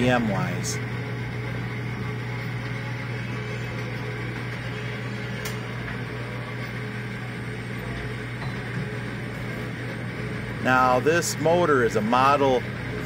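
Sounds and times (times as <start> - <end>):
engine motor humming: 0.0 - 11.2.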